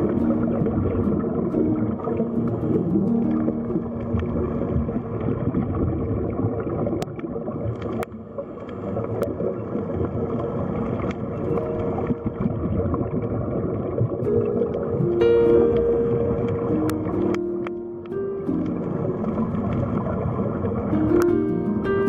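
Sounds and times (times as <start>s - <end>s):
underwater rushing water: 0.0s - 22.0s.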